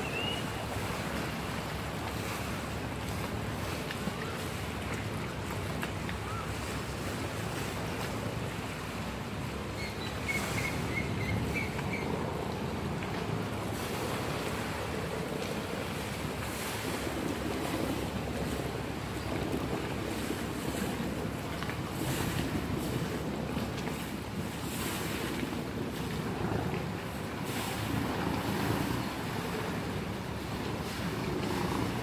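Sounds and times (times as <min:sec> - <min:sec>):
wind on microphone: 0:00.0 - 0:32.0
wake churning and slapping: 0:00.5 - 0:09.4, 0:10.4 - 0:32.0.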